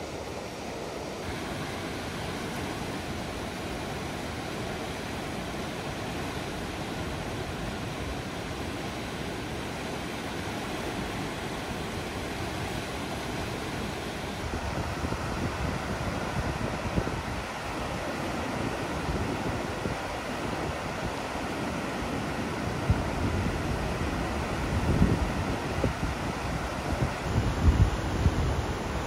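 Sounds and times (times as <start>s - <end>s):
river rushing through rapids: 0.0s - 29.0s.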